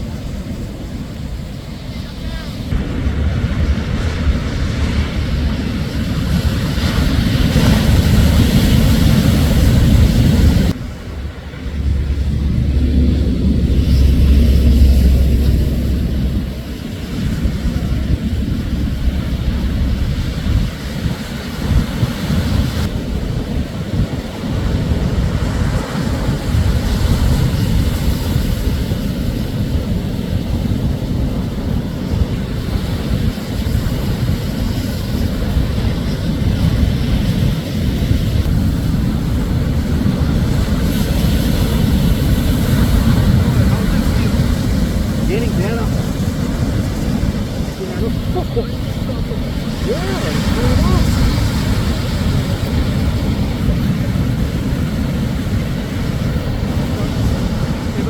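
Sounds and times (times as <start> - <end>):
surf washing ashore: 0.0 - 58.0
wind buffeting microphone: 0.0 - 58.0.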